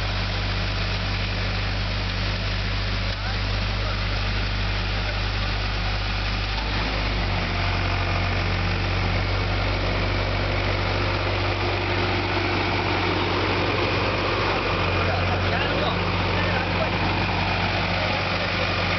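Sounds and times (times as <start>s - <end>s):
skid steer loader engine running: 0.0s - 18.9s.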